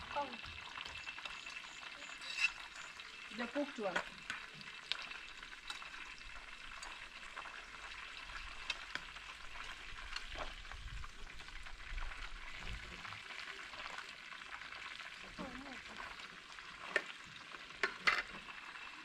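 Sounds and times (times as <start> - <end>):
curry sizzling in a pot: 0.0 - 19.0
small pops and crackles: 0.1 - 19.0.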